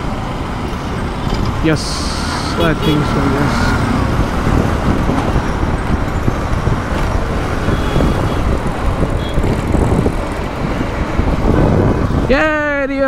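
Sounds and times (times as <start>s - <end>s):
motorcycle engine: 0.0s - 12.6s
surrounding traffic: 0.0s - 13.0s
wind on microphone: 1.5s - 12.7s.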